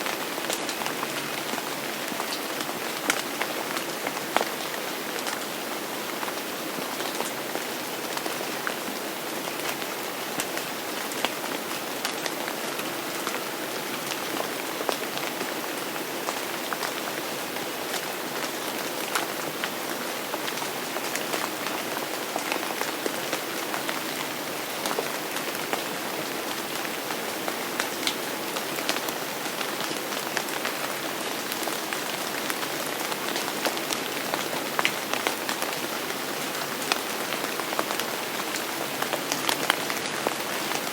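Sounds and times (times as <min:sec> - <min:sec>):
steady rain with ticking drops: 0:00.0 - 0:40.9.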